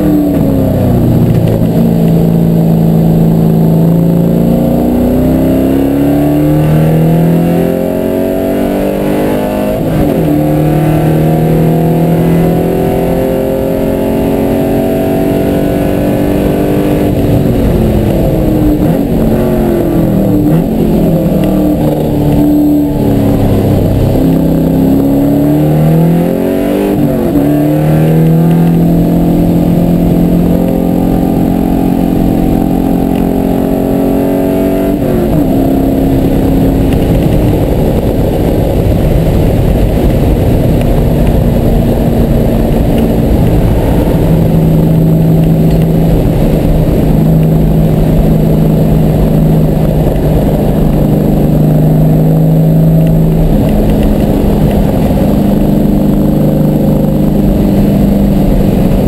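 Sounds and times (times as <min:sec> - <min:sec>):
car engine revving and shifting: 0:00.0 - 0:59.0.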